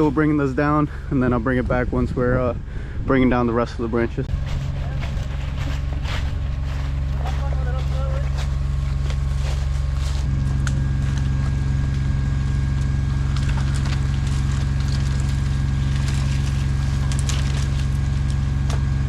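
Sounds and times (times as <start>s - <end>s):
large engine running: 0.0s - 3.0s, 3.7s - 19.0s.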